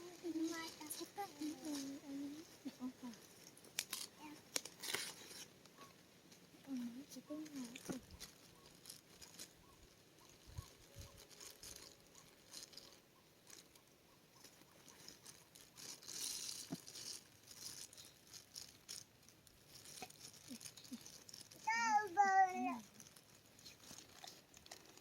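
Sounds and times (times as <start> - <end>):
faint light ticks and rustles: 0.0 - 25.0.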